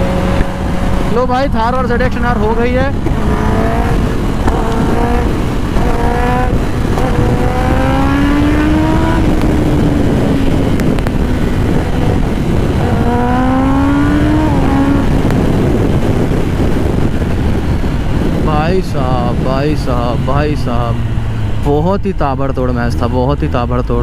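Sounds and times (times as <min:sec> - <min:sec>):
motorcycle engine accelerating hard: 0:00.0 - 0:23.2
wind rush on microphone: 0:00.0 - 0:24.0.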